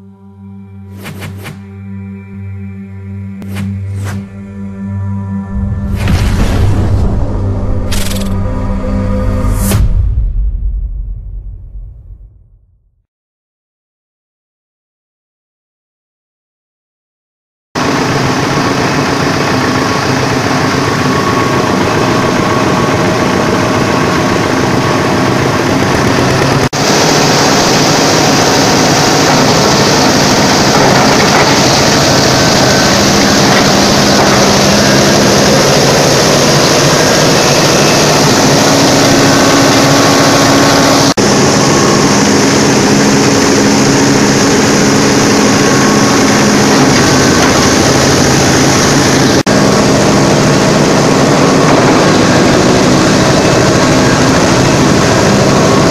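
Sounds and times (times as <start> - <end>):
engine drone: 0.0 - 12.8, 17.8 - 55.9.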